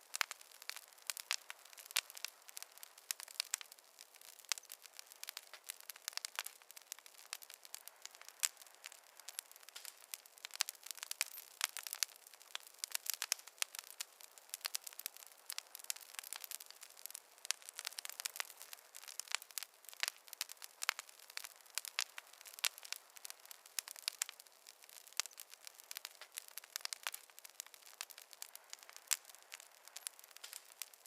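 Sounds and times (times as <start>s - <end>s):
faint hiss: 0.0s - 31.0s
wood fire crackling: 0.0s - 31.0s.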